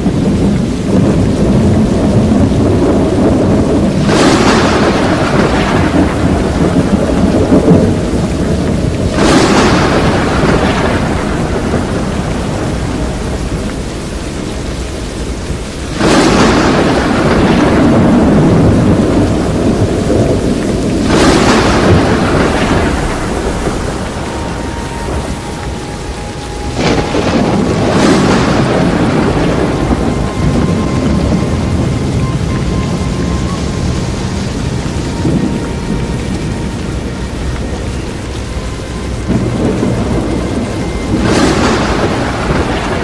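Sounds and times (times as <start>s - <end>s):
low rumble: 0.0s - 43.0s
rain: 0.0s - 43.0s
wind roaring: 0.0s - 43.0s.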